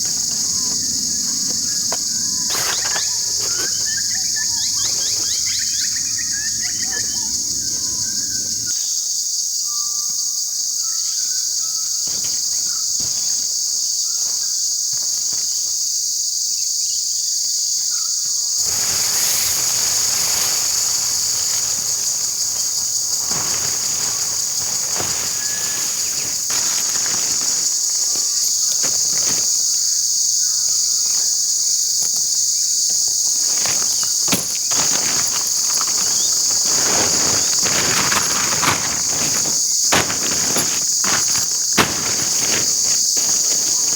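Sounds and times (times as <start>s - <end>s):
rustling: 0.0s - 8.8s, 11.6s - 15.7s, 18.3s - 43.9s
insects buzzing: 0.0s - 43.9s.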